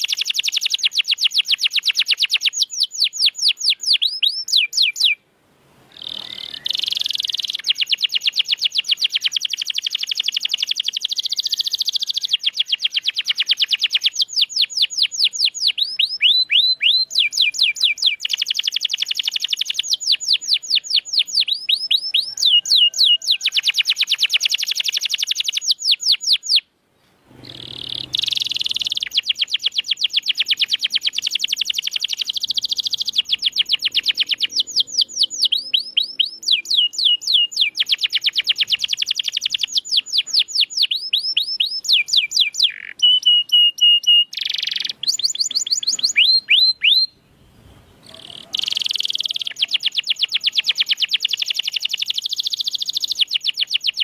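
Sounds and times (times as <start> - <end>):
canary singing: 0.0 - 5.2, 5.9 - 26.7, 27.4 - 54.0.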